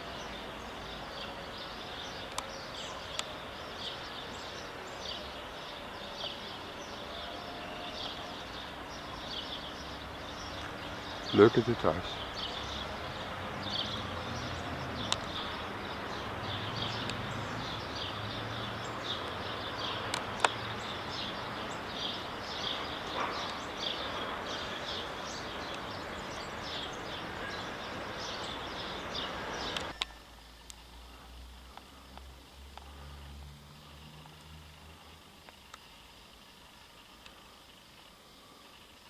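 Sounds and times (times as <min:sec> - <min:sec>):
outdoor background hiss: 0:00.0 - 0:39.0
small birds chirping: 0:00.0 - 0:39.0.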